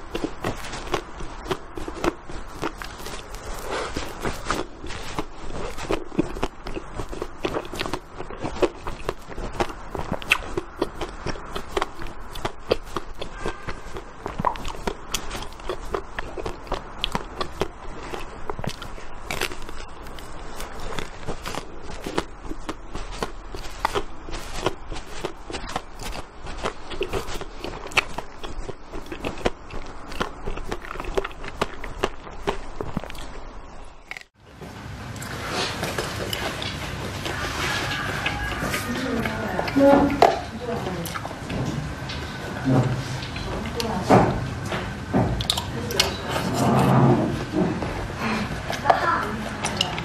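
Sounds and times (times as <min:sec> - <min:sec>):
crunchy chewing of ice cream: 0:00.0 - 0:50.0.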